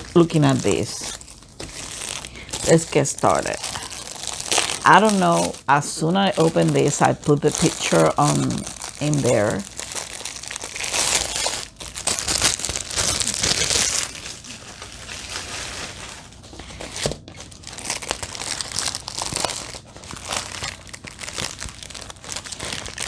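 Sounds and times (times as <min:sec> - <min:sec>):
packaging crinkling and tearing: 0:00.0 - 0:23.0.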